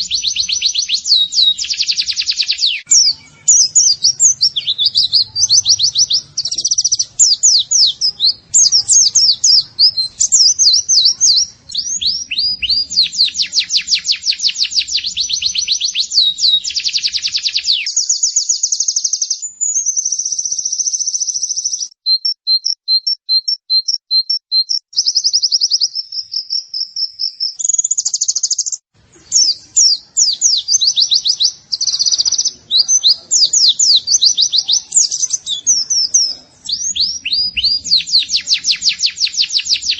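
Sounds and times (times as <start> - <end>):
bird twittering with fast trills: 0.0 - 39.9.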